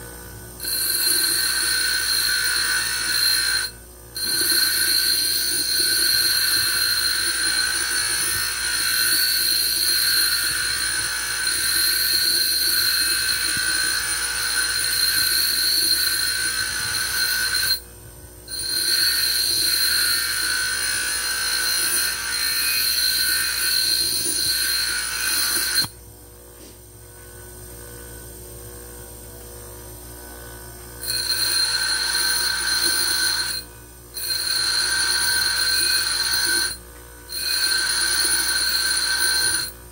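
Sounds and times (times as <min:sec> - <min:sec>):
grinder low running hum: 0:00.0 - 0:39.9
grinder screeching on steel: 0:00.6 - 0:17.8, 0:18.5 - 0:25.9, 0:31.0 - 0:39.9.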